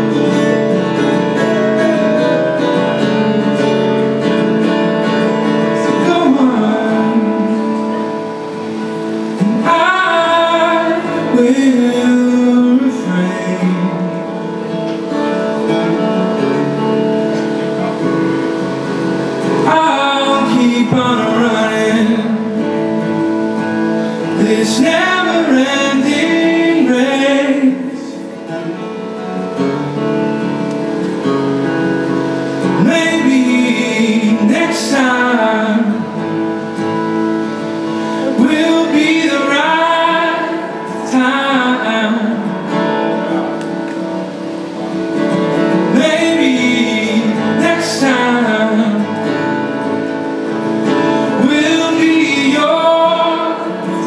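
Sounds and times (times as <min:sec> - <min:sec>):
man singing: 0:00.0 - 0:30.9, 0:32.5 - 0:36.8, 0:37.4 - 0:43.6, 0:45.0 - 0:54.0
acoustic guitar: 0:00.0 - 0:54.0.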